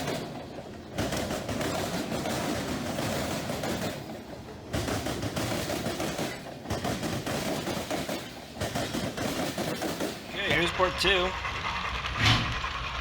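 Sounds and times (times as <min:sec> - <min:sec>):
model train rattling clatter: 0:00.0 - 0:13.0.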